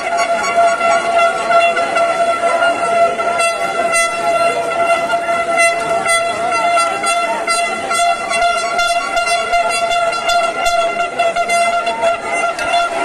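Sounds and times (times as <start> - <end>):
horn long steady note: 0.0 - 13.0
street noise: 0.0 - 13.0.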